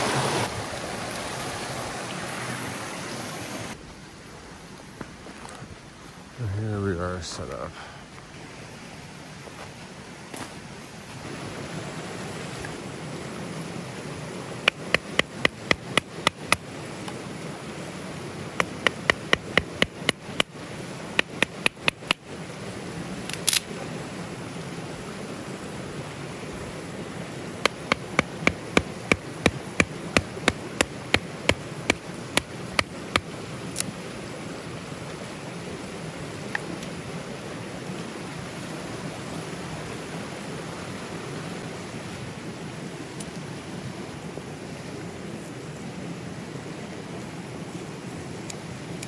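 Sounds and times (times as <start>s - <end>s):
river running: 0.0s - 49.0s.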